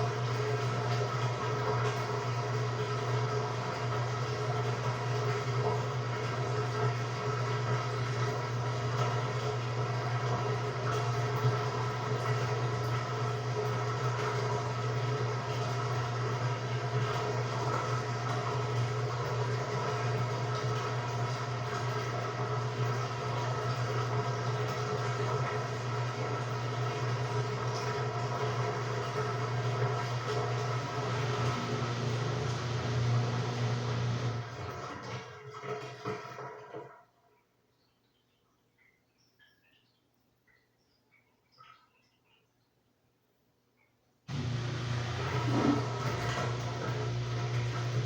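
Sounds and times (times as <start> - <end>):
washing machine humming: 0.0 - 37.0, 44.3 - 48.0.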